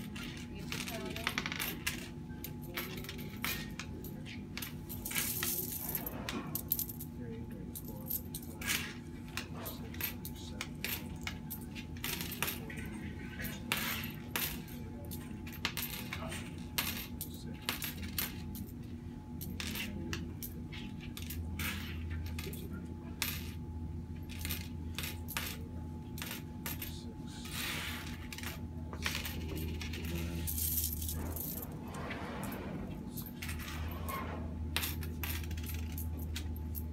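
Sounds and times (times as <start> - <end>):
coins clinking on a counter: 0.0 - 36.9.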